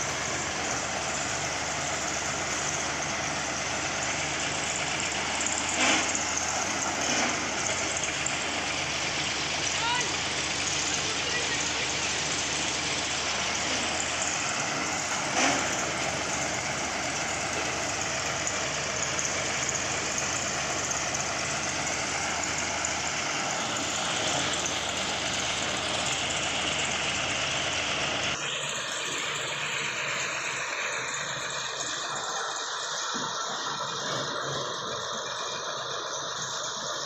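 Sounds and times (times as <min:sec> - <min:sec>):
machine engine running: 0:00.0 - 0:37.0.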